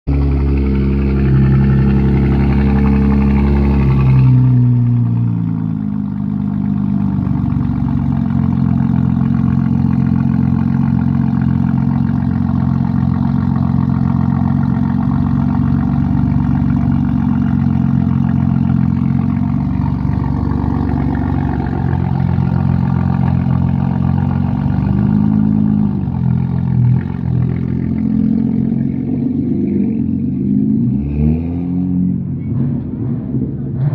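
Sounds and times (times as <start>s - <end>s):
car engine idling: 0.1s - 31.0s
car engine revving: 0.1s - 33.9s.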